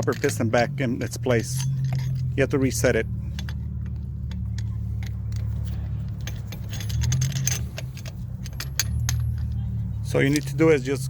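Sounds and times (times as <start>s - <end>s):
metal tools clinking: 0.0s - 11.0s.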